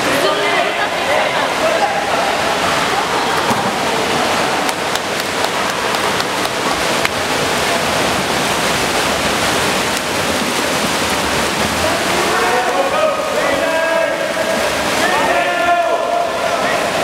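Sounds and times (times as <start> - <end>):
swimmers splashing: 0.0 - 17.0.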